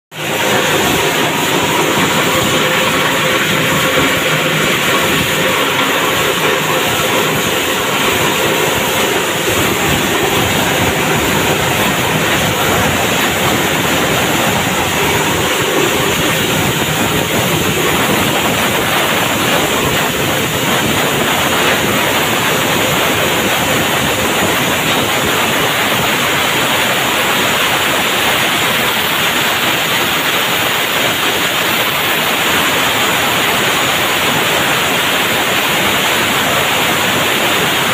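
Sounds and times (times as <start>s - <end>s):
dust separator running: 0.1s - 37.9s.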